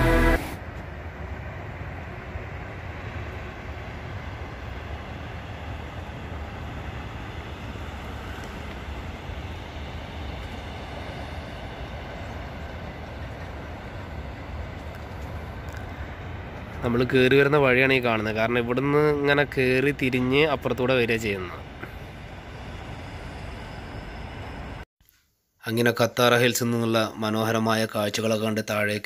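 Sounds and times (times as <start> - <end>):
low rumble: 0.0 - 24.8.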